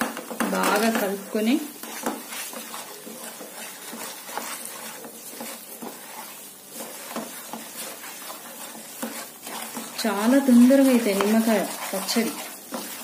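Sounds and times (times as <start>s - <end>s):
oil sizzling: 0.0s - 13.0s
wooden spoon scraping a pan: 0.0s - 13.0s.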